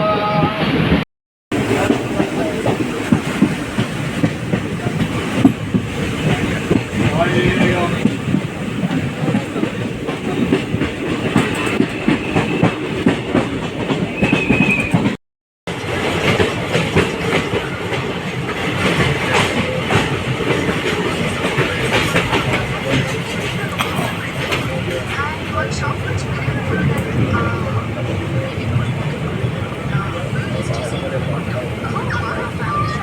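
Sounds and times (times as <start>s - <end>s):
train wheels clattering on rails: 1.6s - 33.0s.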